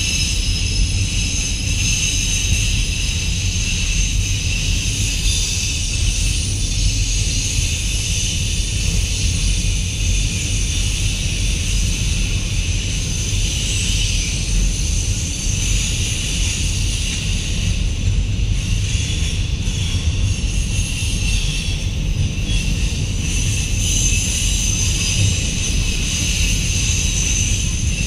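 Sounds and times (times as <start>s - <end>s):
freight train rumble: 0.0s - 28.0s
wheels hissing on rail: 0.0s - 28.0s.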